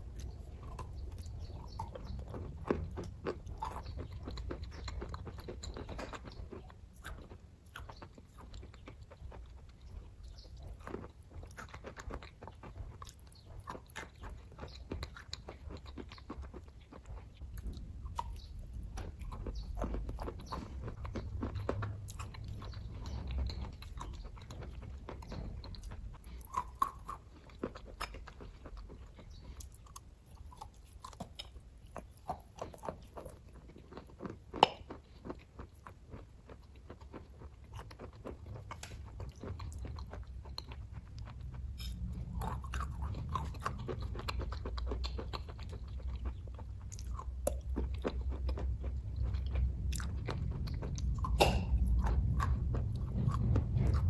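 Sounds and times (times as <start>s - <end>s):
person chewing and biting: 0.0s - 54.0s.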